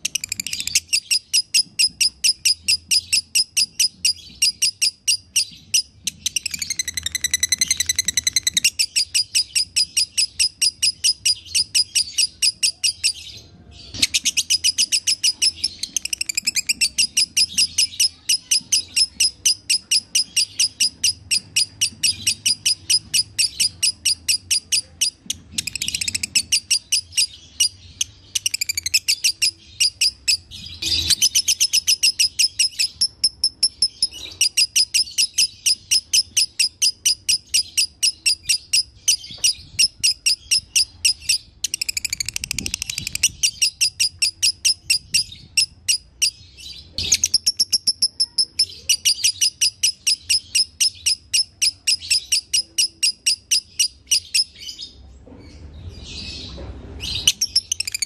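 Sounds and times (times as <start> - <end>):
lovebird chattering trill: 0.0 - 13.3, 13.9 - 54.7.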